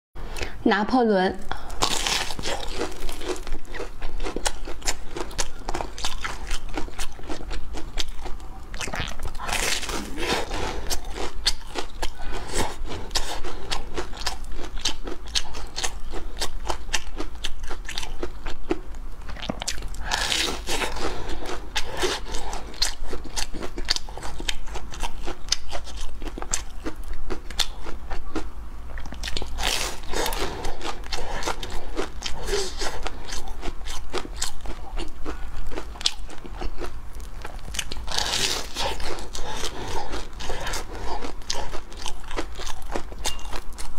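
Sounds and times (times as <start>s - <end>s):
crunching and chewing snacks: 1.5s - 43.9s.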